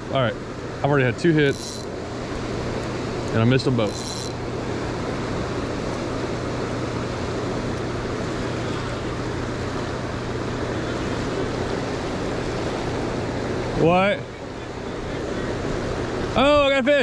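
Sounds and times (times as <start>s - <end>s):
low steady hum: 0.0s - 17.0s
turbulent water rushing: 0.0s - 17.0s.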